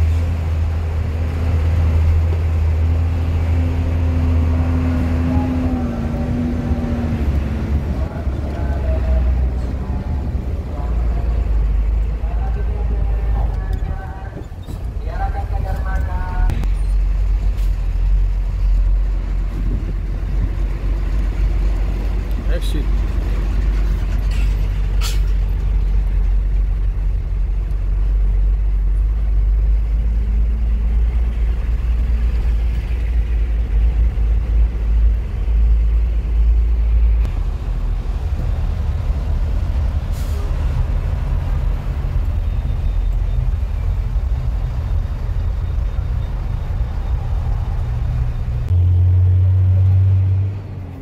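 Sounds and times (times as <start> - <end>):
diesel truck engine drone: 0.0 - 51.0.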